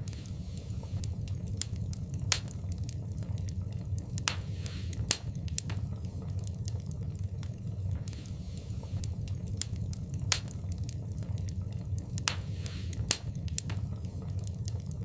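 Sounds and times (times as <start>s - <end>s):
fire popping sharply: 0.0s - 15.0s
fire rumbling in a fireplace: 0.0s - 15.0s.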